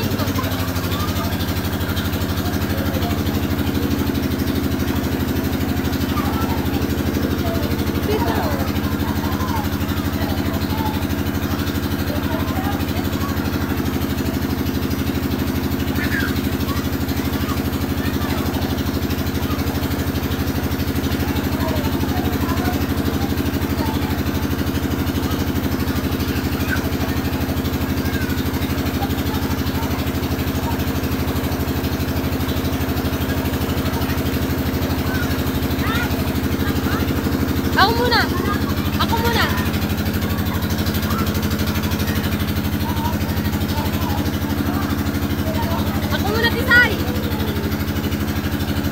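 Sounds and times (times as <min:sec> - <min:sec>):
faint voices of swimmers: 0:00.0 - 0:48.9
motor droning steadily: 0:00.0 - 0:48.9.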